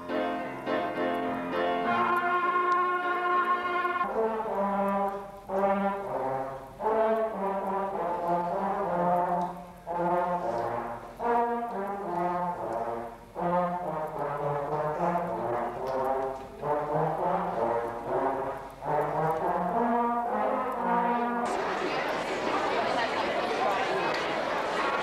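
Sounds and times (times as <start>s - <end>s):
brass section playing chords: 0.0s - 25.0s.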